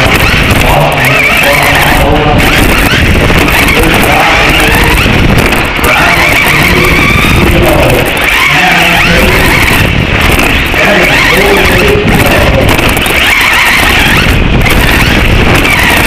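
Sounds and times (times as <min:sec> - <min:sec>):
chassis and tyres rumbling: 0:00.0 - 0:16.0
rc truck motor whine: 0:00.0 - 0:16.0.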